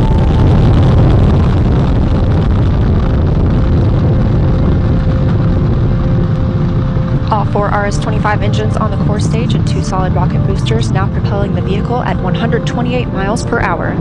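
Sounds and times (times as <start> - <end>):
rocket engines deep rumble: 0.0 - 14.0.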